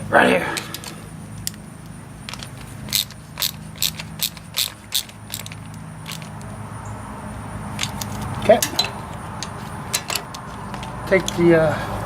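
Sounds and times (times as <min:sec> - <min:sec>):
hand ratchet clicking: 0:00.6 - 0:06.5, 0:07.7 - 0:11.5.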